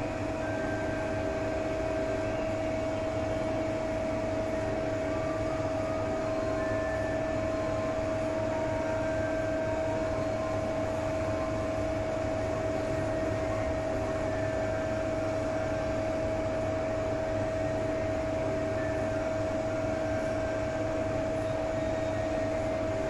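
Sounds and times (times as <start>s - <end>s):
lathe humming and whining: 0.0s - 23.0s.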